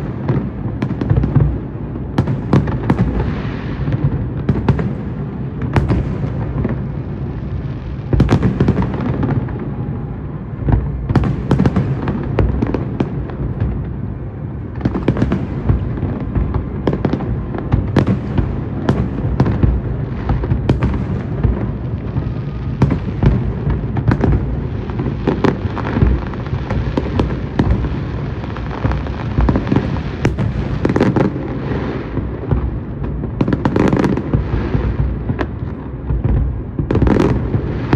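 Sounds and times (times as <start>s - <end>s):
fireworks bangs and crackles: 0.0s - 37.9s.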